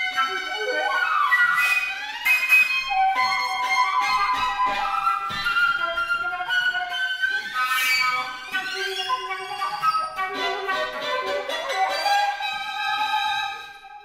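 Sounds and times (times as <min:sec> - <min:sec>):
flute playing: 0:00.0 - 0:14.0
violin playing: 0:00.0 - 0:14.0.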